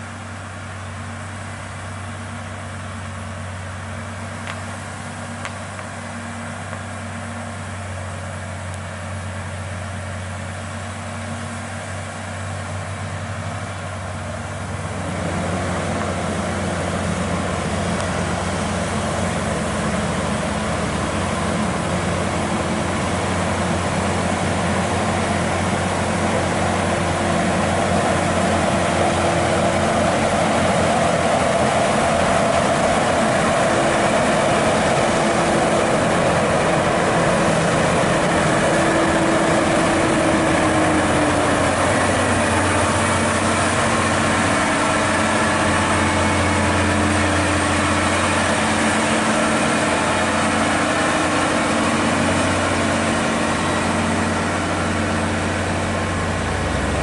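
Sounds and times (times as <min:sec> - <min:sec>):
steady whine: 0:00.0 - 0:57.0
truck diesel engine labouring: 0:00.0 - 0:57.0.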